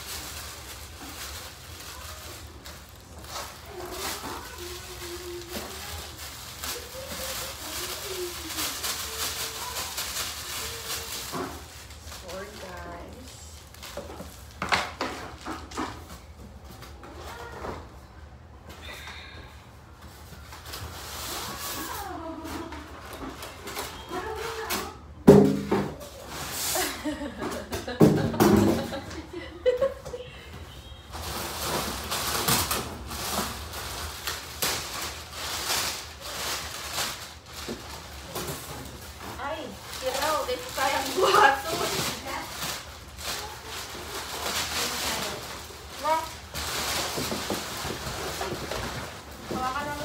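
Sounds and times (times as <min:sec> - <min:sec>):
plastic wrap rustling and crinkling: 0:00.0 - 0:18.7, 0:19.8 - 0:50.0.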